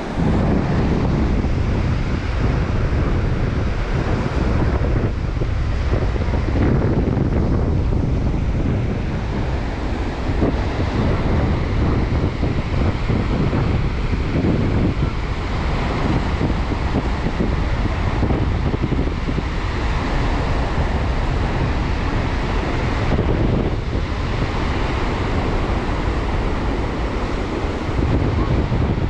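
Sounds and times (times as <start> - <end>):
sea surf: 0.0 - 29.0
wind buffeting microphone: 0.0 - 29.0.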